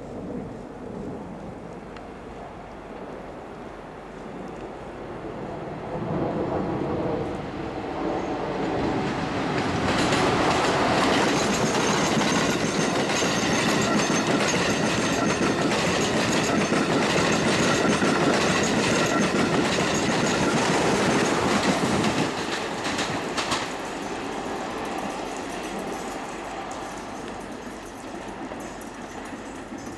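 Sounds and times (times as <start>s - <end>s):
train wheels on rails: 4.5s - 29.9s.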